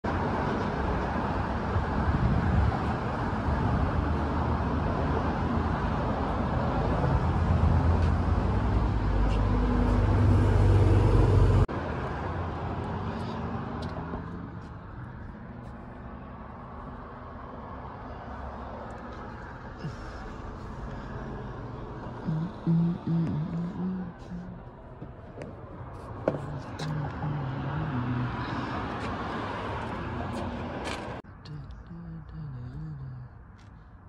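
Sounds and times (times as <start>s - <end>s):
loud low traffic rumble: 0.0s - 34.0s.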